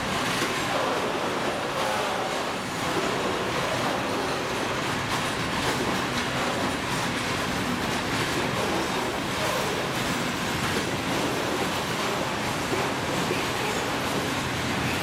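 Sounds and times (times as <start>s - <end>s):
steel wheels rumbling on rails: 0.0s - 15.0s
wheels clattering over rail joints: 0.0s - 15.0s.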